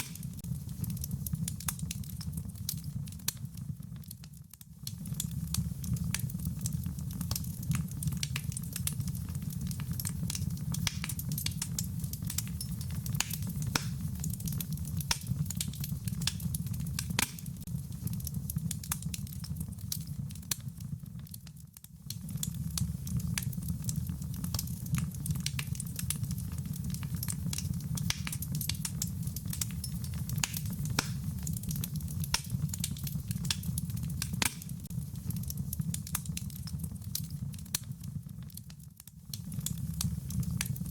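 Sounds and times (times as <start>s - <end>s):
rain pattering: 0.0s - 40.9s
wood fire crackling: 0.0s - 40.9s.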